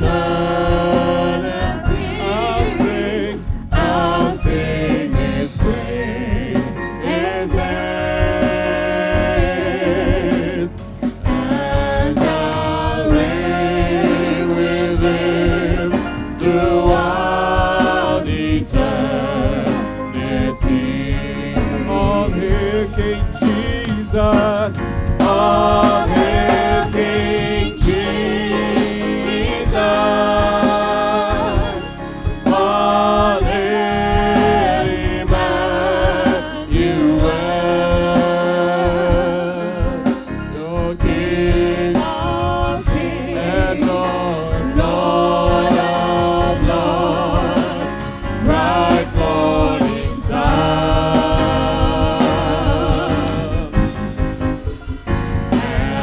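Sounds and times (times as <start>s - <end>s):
band accompaniment: 0.0s - 56.0s
worship team singing: 0.0s - 56.0s.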